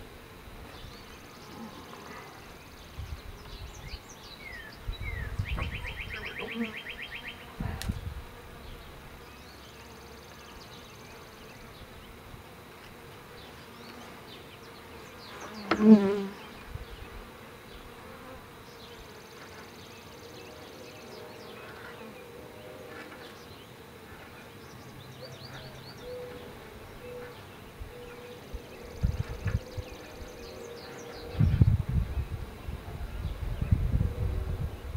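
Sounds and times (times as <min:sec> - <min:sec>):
bee buzzing close by: 0:00.0 - 0:34.9
bees buzzing: 0:00.0 - 0:34.9.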